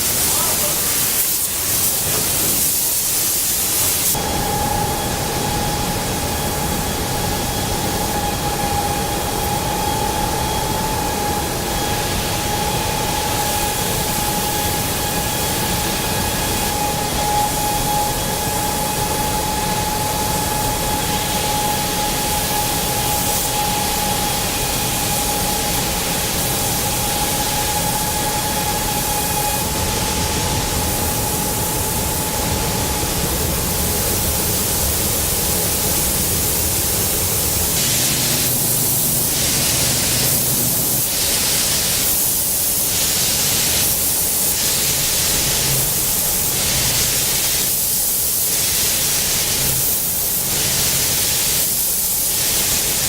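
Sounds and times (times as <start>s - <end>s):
high-pitched whine: 0.0s - 53.0s
machinery hiss and rumble: 0.0s - 53.0s.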